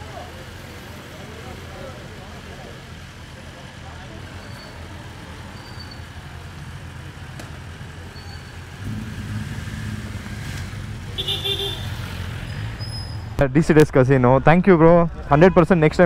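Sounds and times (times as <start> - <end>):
vehicle engine idling: 0.0 - 13.4.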